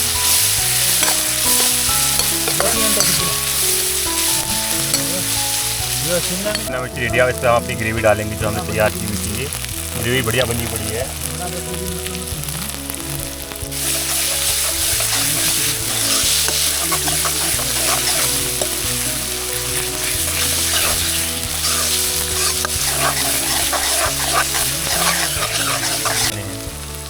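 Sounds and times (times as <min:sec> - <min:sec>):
stirring clatter: 0:00.0 - 0:06.8, 0:10.4 - 0:26.9
vegetables sizzling in hot oil: 0:00.0 - 0:27.0.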